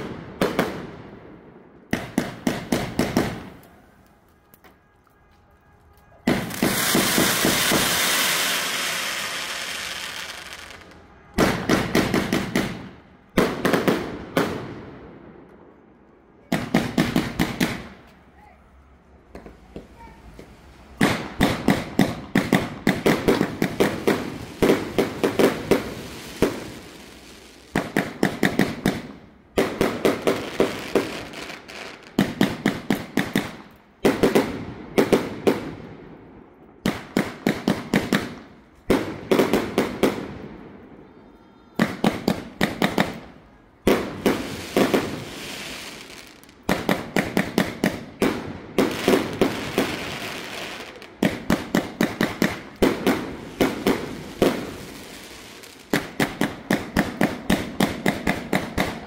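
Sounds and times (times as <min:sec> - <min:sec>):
firework bangs: 0:00.0 - 0:03.8, 0:06.1 - 0:15.5, 0:16.4 - 0:18.1, 0:19.3 - 0:36.2, 0:36.8 - 0:41.1, 0:41.8 - 0:59.0.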